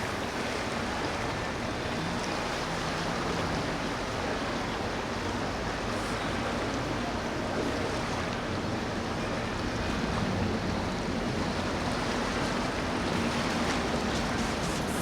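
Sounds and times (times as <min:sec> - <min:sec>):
water and surf rushing: 0:00.0 - 0:15.0.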